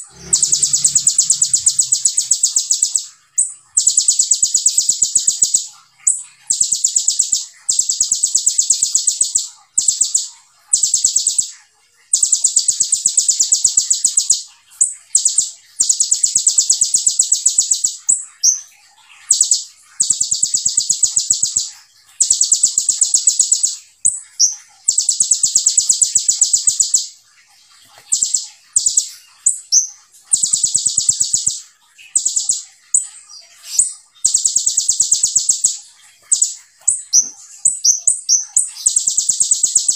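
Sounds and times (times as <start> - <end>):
bird singing rattling trills: 0.0 - 39.9.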